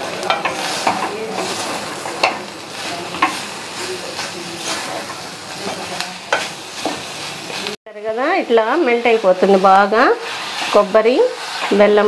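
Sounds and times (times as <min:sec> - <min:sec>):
light sizzle: 0:00.0 - 0:12.0.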